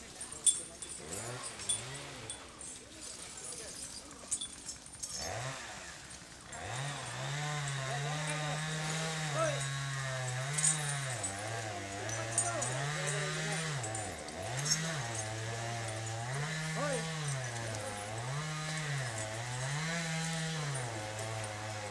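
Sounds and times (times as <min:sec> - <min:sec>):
small petrol engine revving: 0:00.9 - 0:02.6, 0:05.0 - 0:21.9.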